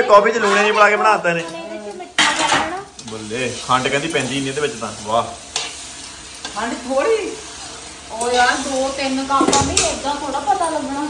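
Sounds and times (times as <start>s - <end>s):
frying sizzle in a wok: 0.0s - 11.0s.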